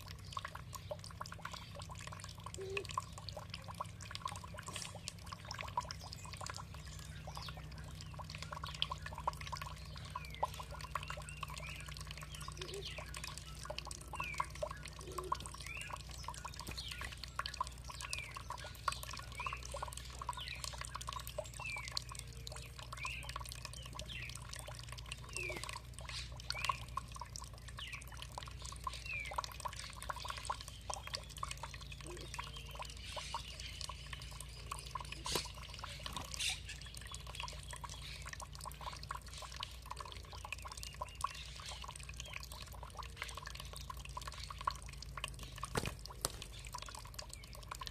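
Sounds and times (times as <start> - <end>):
water trickling and dripping: 0.0 - 47.9
bird chirping: 4.5 - 44.8.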